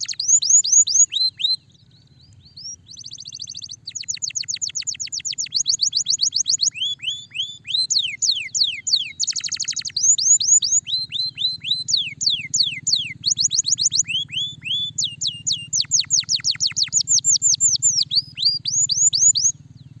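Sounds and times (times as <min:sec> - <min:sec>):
canary singing trills: 0:00.0 - 0:20.0.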